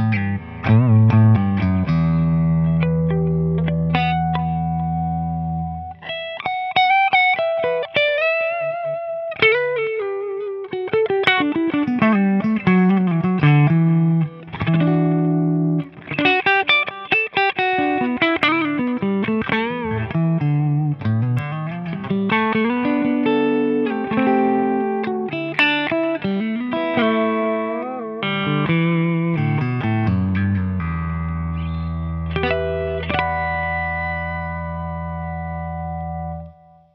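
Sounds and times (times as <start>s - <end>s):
electric guitar playing: 0.0s - 36.9s.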